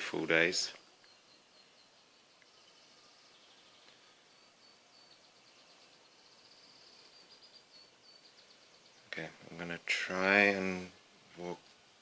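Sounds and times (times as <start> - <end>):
faint high bird chirps and trills: 0.0 - 12.0.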